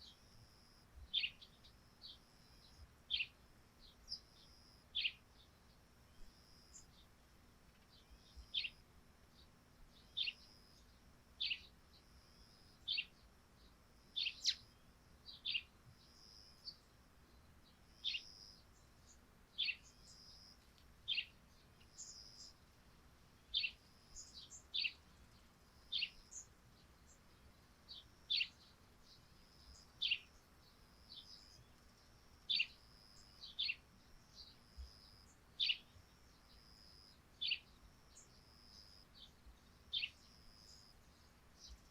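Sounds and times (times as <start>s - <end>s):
sparrows chirping: 0.0s - 22.7s, 23.3s - 41.9s.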